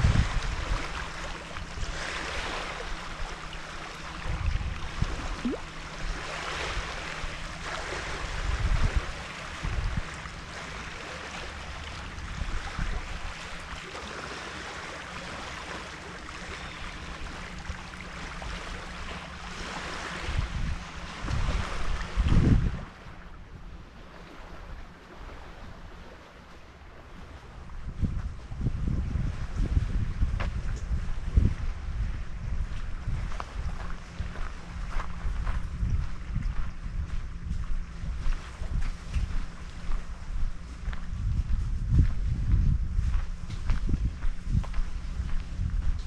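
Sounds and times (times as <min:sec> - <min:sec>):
small waves lapping on shore: 0:00.0 - 0:41.5
wind rumbling on microphone: 0:00.0 - 0:46.0.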